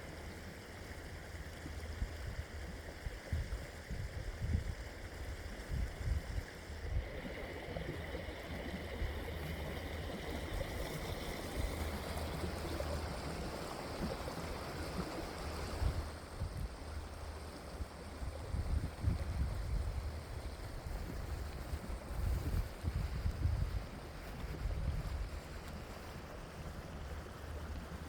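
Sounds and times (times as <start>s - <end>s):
wind buffeting microphone: 2.0s - 28.0s
stream water rushing: 5.2s - 28.0s.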